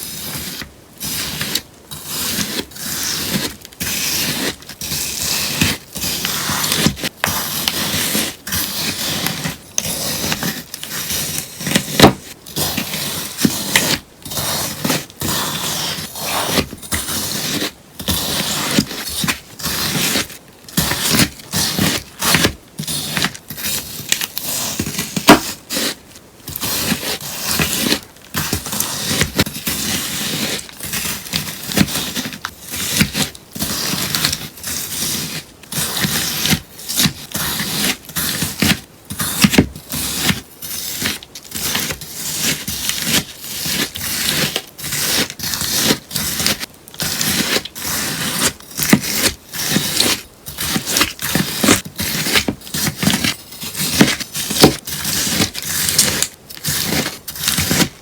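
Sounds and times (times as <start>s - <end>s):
sponge being cut: 0.0s - 58.0s.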